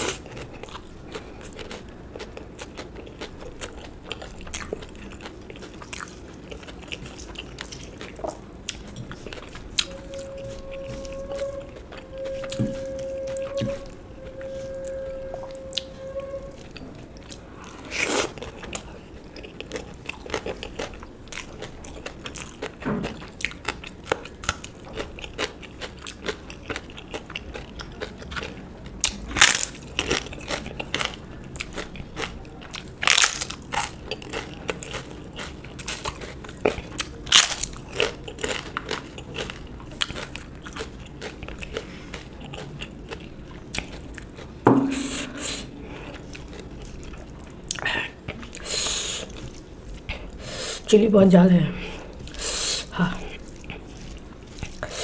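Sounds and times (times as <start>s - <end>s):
chewing: 0.0s - 50.9s, 51.8s - 55.0s.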